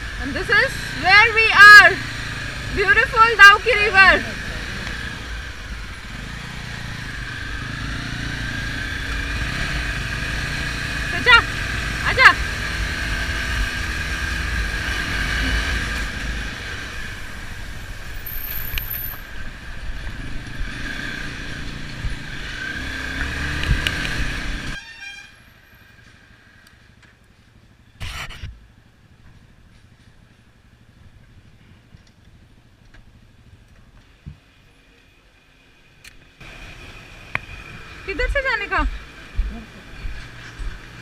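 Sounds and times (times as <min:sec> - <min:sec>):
traffic noise: 0:00.0 - 0:41.0
vehicle engines: 0:00.0 - 0:41.0.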